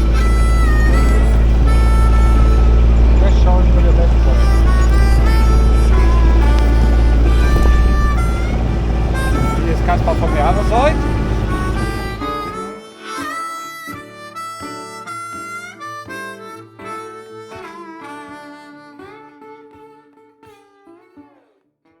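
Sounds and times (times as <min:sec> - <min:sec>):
harmonica: 0:00.0 - 0:21.5
acoustic guitar: 0:00.0 - 0:22.0.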